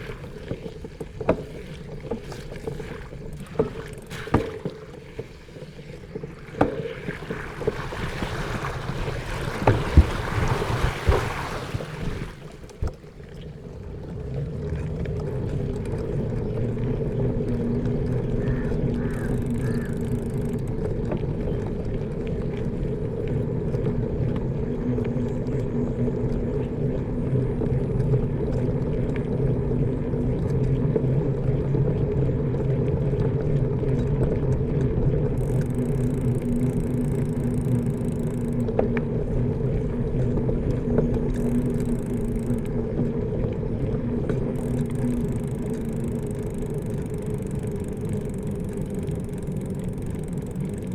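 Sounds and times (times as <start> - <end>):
motor humming: 0.0 - 50.9.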